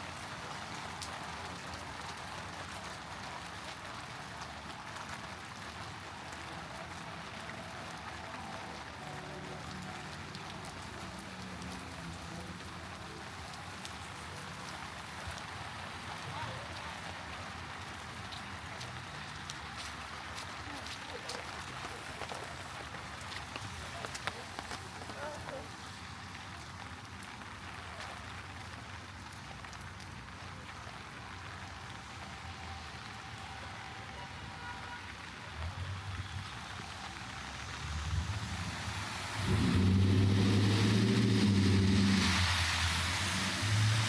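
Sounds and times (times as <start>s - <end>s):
heavy rain on pavement: 0.0s - 44.0s
low hum of city traffic: 0.0s - 44.0s.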